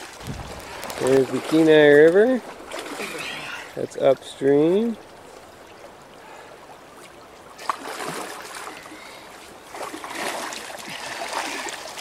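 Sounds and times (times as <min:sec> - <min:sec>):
river water lapping on rocks: 0:00.0 - 0:12.0.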